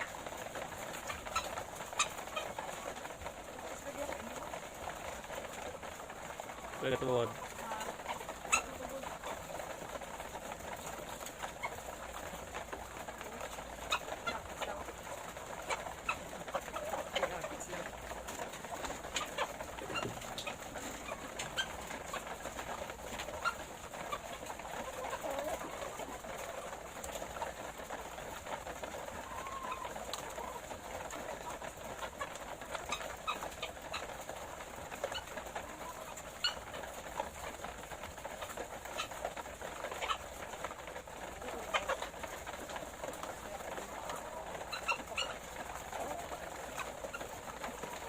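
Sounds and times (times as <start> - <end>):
hens clucking: 0.0 - 48.0.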